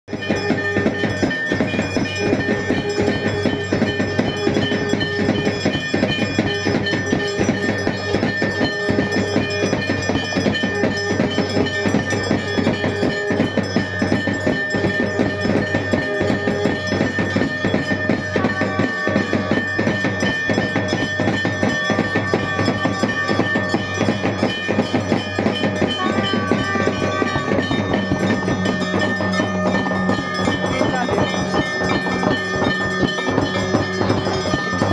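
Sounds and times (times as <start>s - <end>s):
drums beating fast: 0.1s - 34.9s
temple bells ringing: 0.1s - 34.9s.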